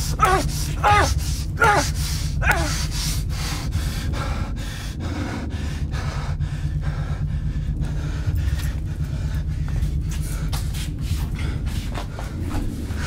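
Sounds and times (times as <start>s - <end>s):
low hum: 0.0s - 13.0s
men breathing hard: 0.0s - 13.0s.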